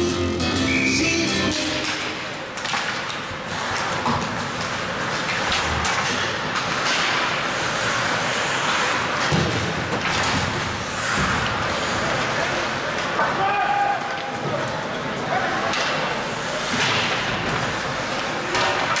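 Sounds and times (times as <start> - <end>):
crowd and rink noise: 0.0 - 19.0.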